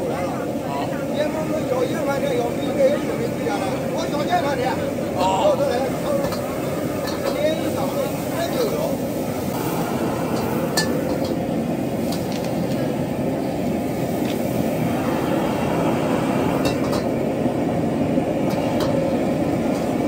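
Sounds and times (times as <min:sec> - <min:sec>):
gas burner rushing: 0:00.0 - 0:20.0
food frying in a wok: 0:00.4 - 0:20.0.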